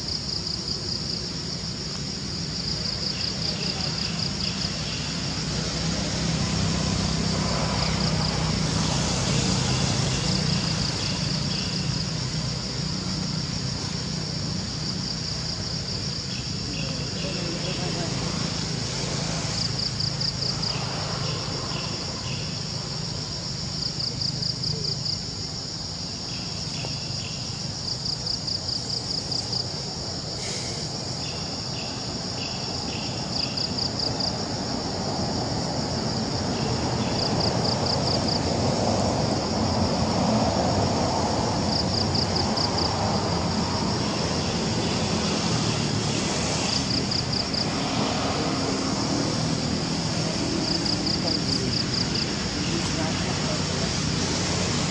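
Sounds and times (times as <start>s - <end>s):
insects chirping in pulsing trills: 0.0s - 54.9s.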